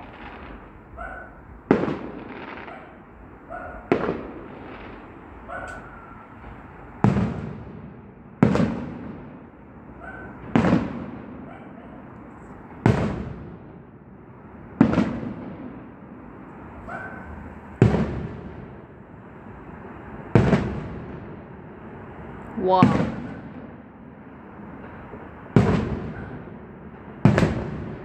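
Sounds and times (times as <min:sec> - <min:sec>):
firework shells booming: 0:00.0 - 0:28.0.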